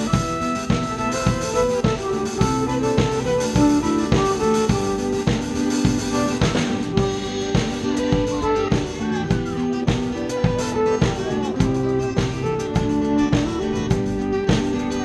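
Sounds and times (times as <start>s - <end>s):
drum kit beat: 0.0s - 15.0s
electric bass: 0.0s - 15.0s
strummed acoustic guitar: 0.0s - 15.0s
violin: 0.0s - 15.0s.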